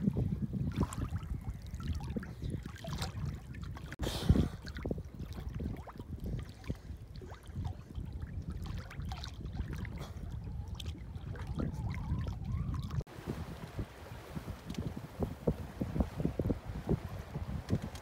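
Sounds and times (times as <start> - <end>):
water lapping and splashing: 0.0 - 18.0.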